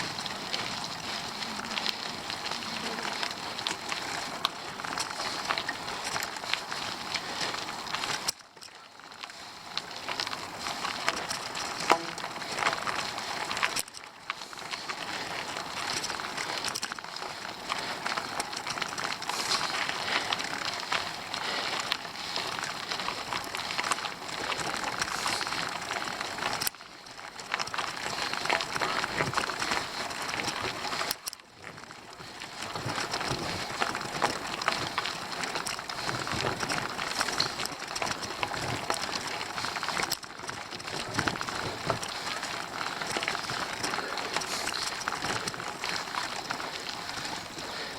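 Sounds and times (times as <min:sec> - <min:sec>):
bicycle tyres rolling on road: 0:00.0 - 0:47.9.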